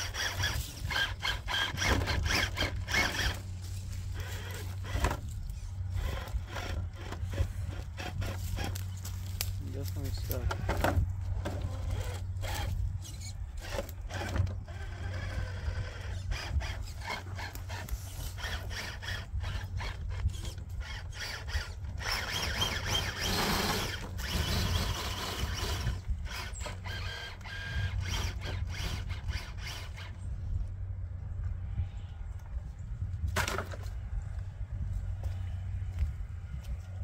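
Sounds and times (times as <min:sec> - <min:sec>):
toy motor and drivetrain whining: 0:00.0 - 0:30.3.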